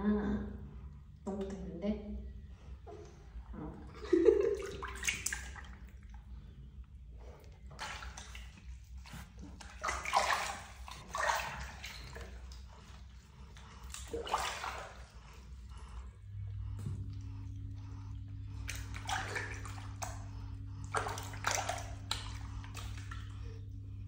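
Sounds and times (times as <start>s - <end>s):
water sloshing in a tub: 0.0s - 24.0s.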